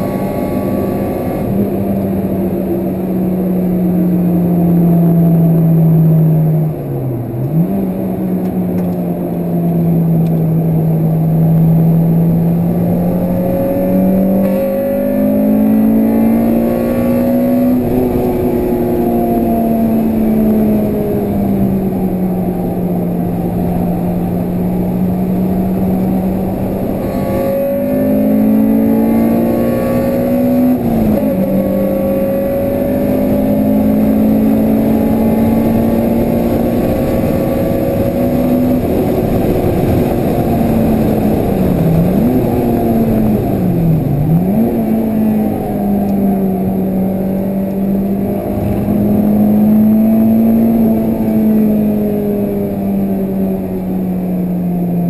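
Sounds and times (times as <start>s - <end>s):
car engine at high revs: 0.0s - 55.0s
wind and road noise: 0.0s - 55.0s.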